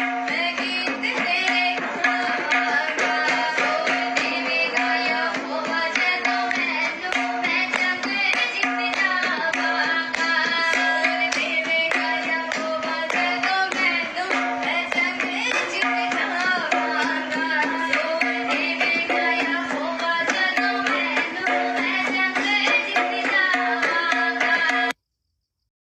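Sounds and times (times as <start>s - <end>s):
person singing: 0.0s - 25.0s
quick drum beats: 0.0s - 25.0s.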